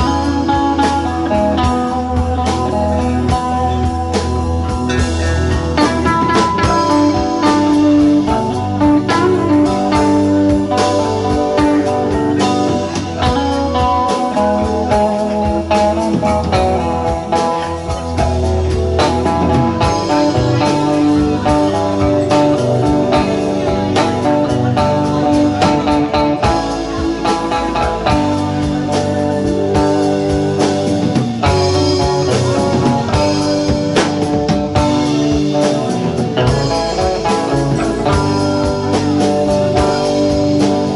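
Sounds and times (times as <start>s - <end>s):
bass guitar: 0.0s - 40.9s
drum kit: 0.0s - 40.9s
electric guitar: 0.0s - 40.9s
keyboard: 0.0s - 40.9s.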